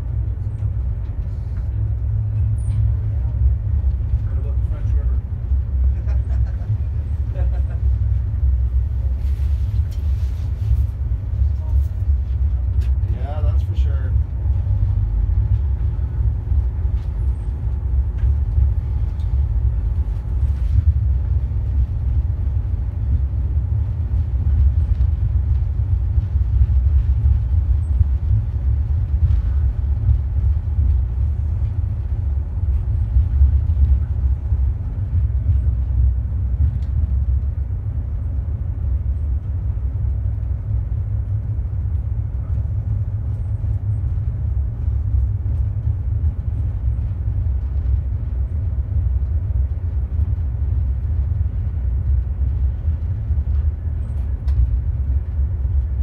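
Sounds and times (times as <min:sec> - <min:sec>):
diesel railcar rumbling: 0:00.0 - 0:56.0.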